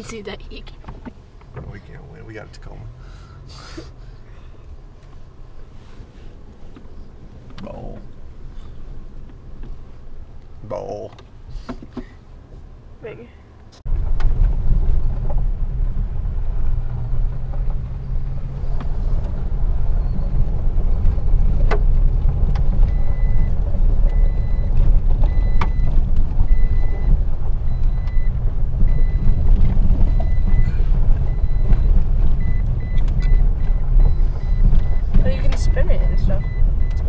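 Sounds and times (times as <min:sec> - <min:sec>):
engine and tyres rumbling: 0:00.0 - 0:37.0.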